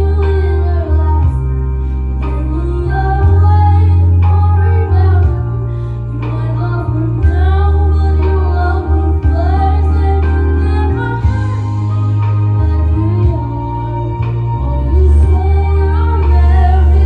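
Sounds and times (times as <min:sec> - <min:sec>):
backing track low notes: 0:00.0 - 0:17.0
girl singing pop melody: 0:00.0 - 0:17.0.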